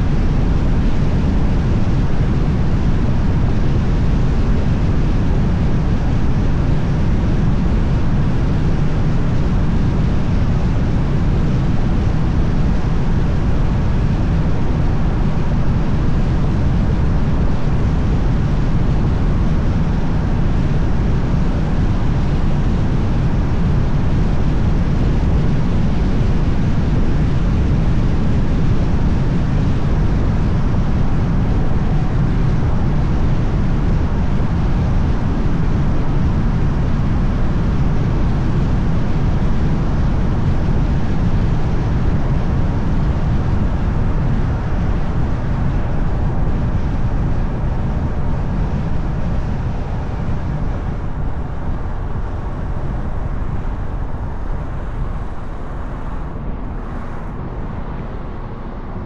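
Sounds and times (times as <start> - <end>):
car road and wind noise: 0.0 - 59.0.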